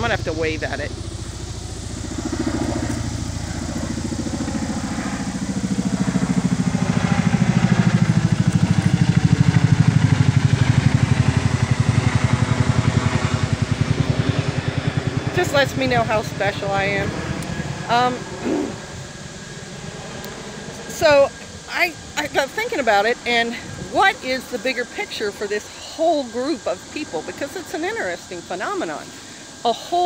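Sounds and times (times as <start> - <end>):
helicopter rotor blades beating: 0.0 - 30.0.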